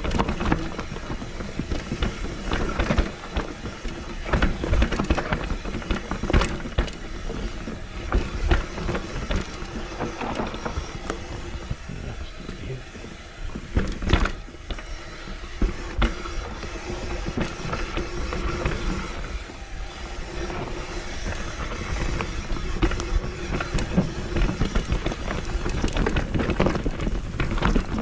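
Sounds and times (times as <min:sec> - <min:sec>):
bike knocking and rattling: 0:00.0 - 0:28.0
bike tyres crunching over stones: 0:00.0 - 0:28.0
steady hum: 0:00.0 - 0:28.0.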